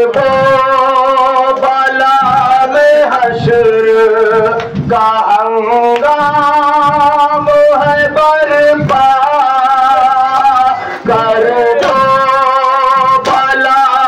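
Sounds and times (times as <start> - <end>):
chest beating thumps: 0.0 - 14.0
man chanting into a microphone: 0.0 - 14.0.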